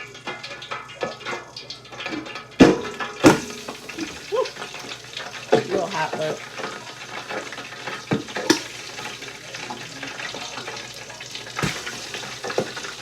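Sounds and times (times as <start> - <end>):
chicken frying in grease: 0.0 - 13.0
grease popping: 0.0 - 13.0.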